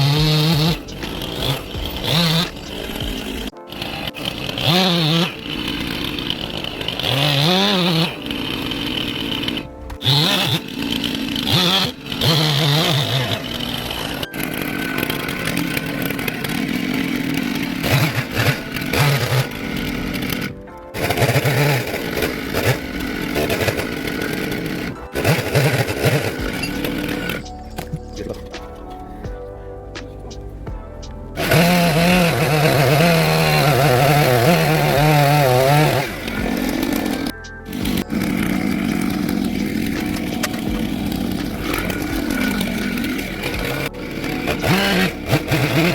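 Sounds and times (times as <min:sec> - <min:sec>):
chainsaw cutting wood: 0:00.0 - 0:28.9, 0:31.4 - 0:45.9.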